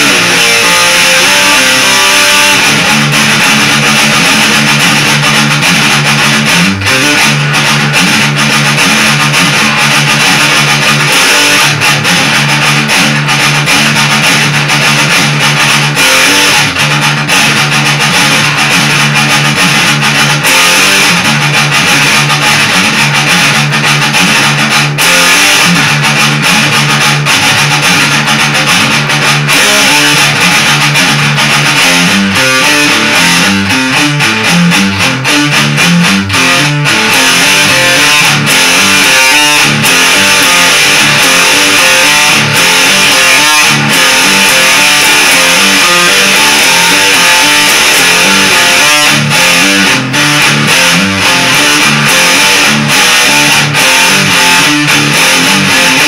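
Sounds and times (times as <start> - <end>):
loud guitar riffing: 0.0 - 56.0.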